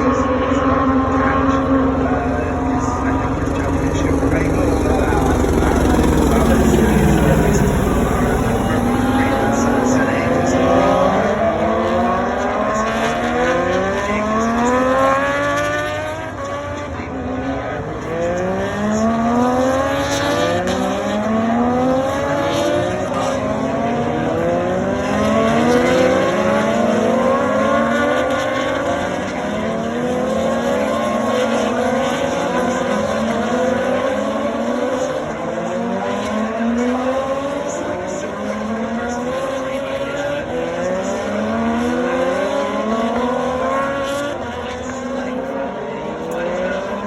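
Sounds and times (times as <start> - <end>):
racing motorcycle engines revving: 0.0 - 47.0.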